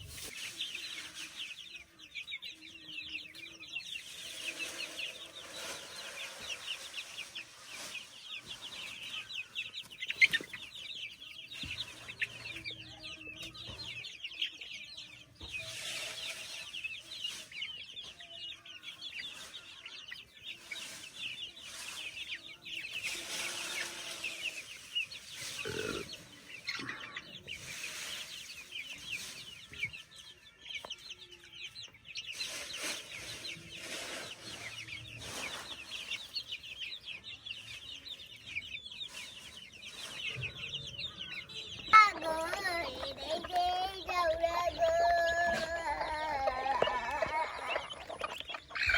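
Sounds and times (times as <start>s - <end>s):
chickens clucking and chirping: 0.0s - 48.9s.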